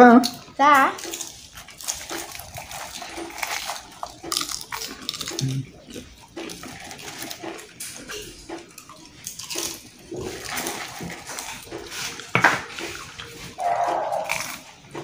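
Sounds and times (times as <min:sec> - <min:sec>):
hands rummaging in plastic bowls: 0:00.0 - 0:15.0.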